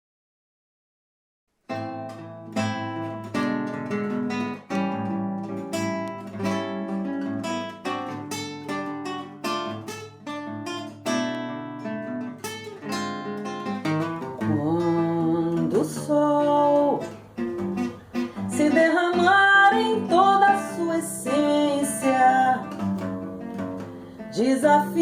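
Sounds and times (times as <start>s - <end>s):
acoustic guitar playing: 1.7s - 25.0s.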